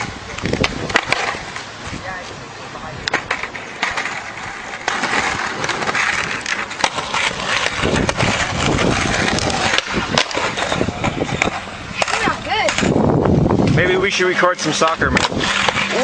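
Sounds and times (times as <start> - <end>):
skateboard clacks: 0.0 - 16.0
skateboard wheels rolling: 0.0 - 16.0.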